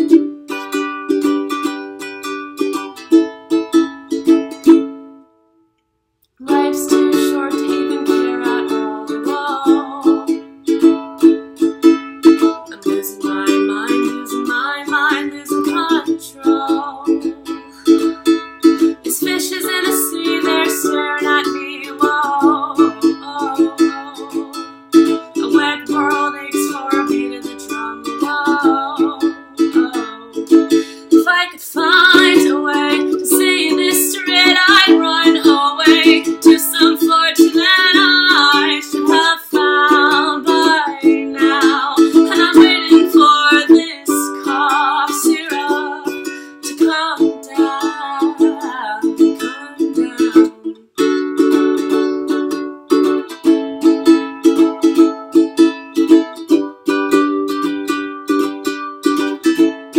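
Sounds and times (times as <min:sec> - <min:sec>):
ukulele strumming: 0:00.0 - 0:05.7, 0:06.4 - 0:59.9
person singing: 0:06.4 - 0:59.9.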